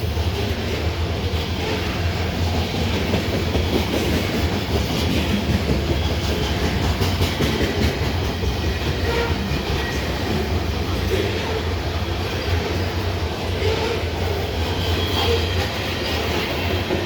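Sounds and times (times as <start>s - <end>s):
freight train rumbling: 0.0s - 17.0s
train wheels clicking on rail joints: 0.0s - 17.0s.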